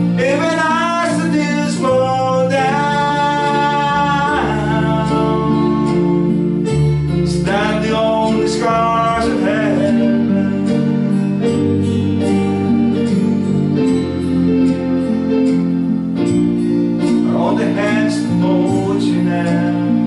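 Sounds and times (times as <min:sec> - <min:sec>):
acoustic guitar: 0:00.0 - 0:20.0
electronic keyboard chords: 0:00.0 - 0:20.0.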